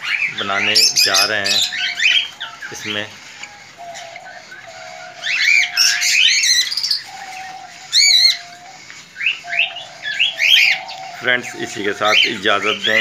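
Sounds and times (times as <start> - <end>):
cockatiels chirping: 0.0 - 13.0
loud wavering bird call: 0.0 - 13.0.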